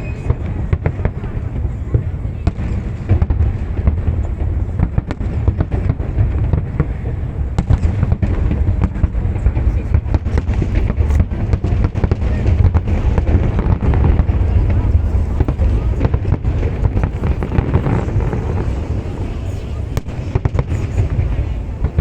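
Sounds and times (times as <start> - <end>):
fireworks bangs and crackles: 0.0 - 22.0
low rumble: 3.0 - 22.0.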